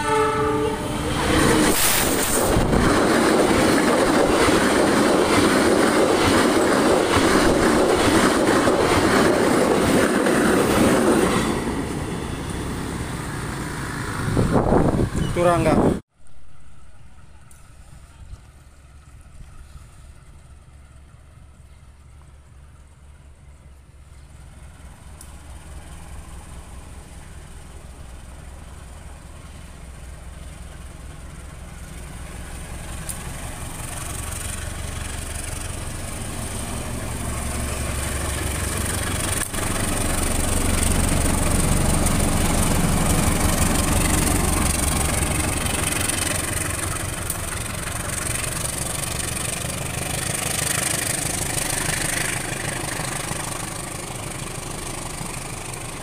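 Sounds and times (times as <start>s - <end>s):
locomotive engine rumble: 0.0s - 56.0s
train wheels rushing on rails: 0.0s - 56.0s.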